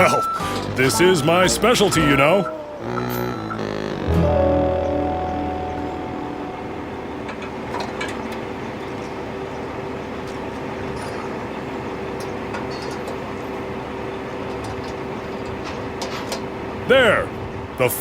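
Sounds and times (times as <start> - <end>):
tow truck engine humming: 0.0 - 17.8.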